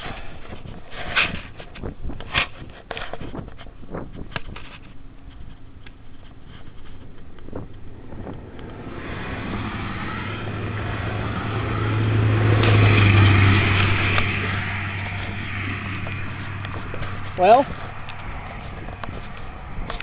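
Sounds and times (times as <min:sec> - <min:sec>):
car engine humming: 0:03.3 - 0:20.0.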